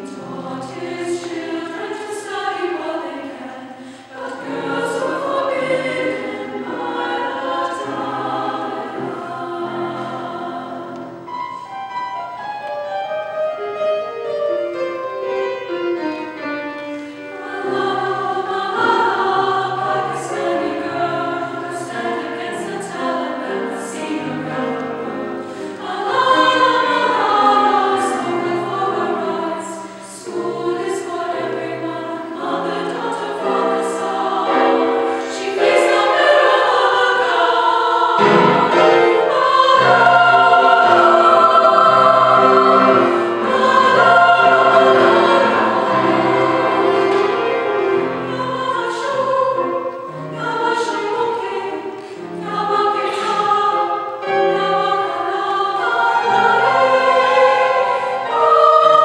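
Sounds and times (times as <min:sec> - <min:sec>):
choir singing: 0:00.0 - 0:59.0
piano accompaniment: 0:04.2 - 0:59.0.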